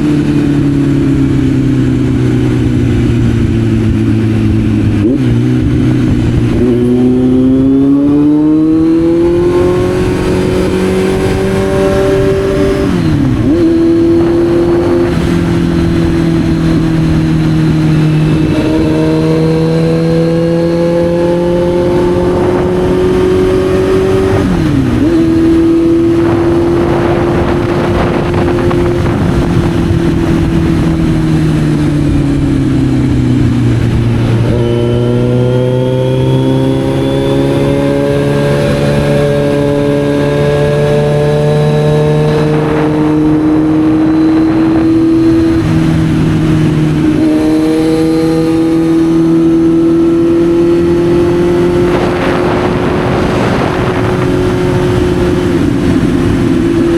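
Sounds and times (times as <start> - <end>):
motorcycle engine revving: 0.0 - 56.9
wind and road noise: 0.0 - 56.9.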